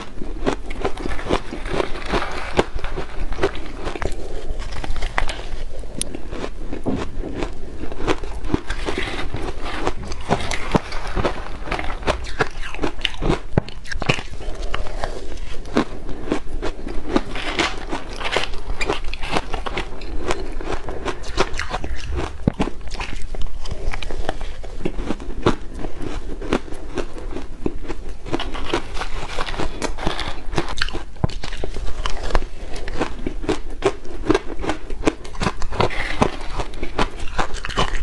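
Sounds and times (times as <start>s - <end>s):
ice crunching while chewed: 0.0s - 38.0s.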